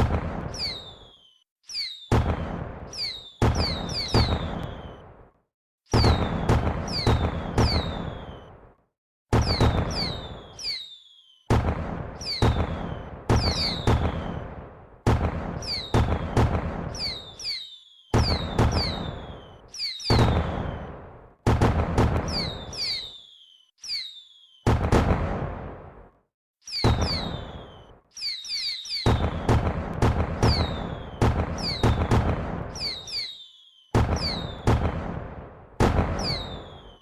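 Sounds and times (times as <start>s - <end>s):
falling firework whistle: 0.0s - 5.3s, 5.9s - 14.5s, 15.5s - 21.1s, 22.2s - 25.2s, 26.6s - 29.7s, 30.4s - 35.0s, 36.0s - 37.0s
fireworks booming: 0.0s - 8.7s, 9.3s - 23.4s, 24.0s - 37.0s.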